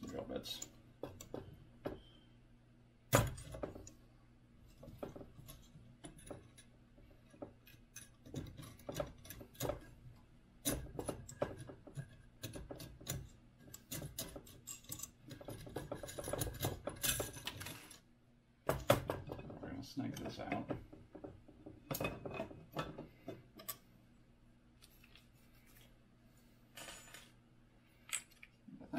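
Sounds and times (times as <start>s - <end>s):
faint low hum: 0.0s - 28.9s.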